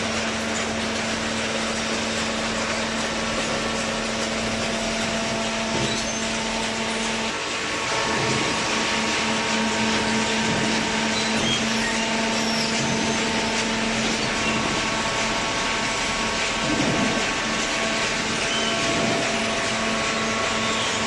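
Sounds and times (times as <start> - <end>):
baler machine hum: 0.0 - 21.0.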